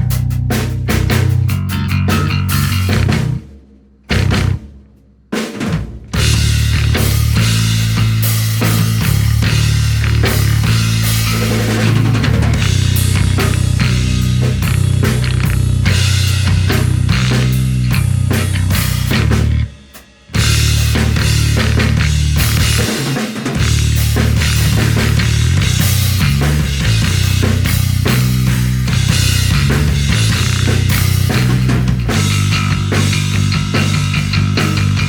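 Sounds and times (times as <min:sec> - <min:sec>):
electric bass: 0:00.0 - 0:03.5, 0:04.1 - 0:04.6, 0:06.2 - 0:19.8, 0:20.4 - 0:35.0
drum kit playing rock: 0:00.0 - 0:35.0.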